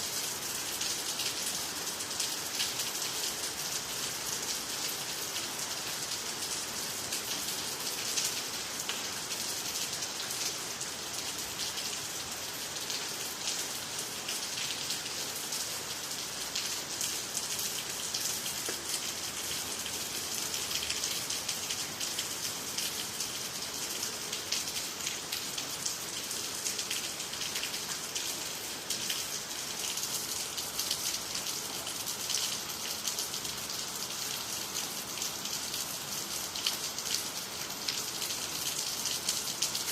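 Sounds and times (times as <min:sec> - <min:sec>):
rain pattering on ground and trees: 0:00.0 - 0:39.9.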